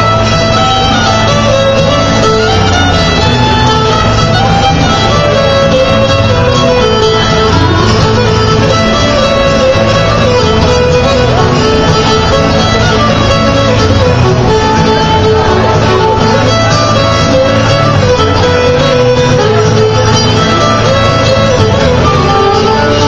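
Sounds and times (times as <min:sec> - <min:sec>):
acoustic guitar strumming: 0:00.0 - 0:23.0
fiddle playing a tune: 0:00.0 - 0:23.0.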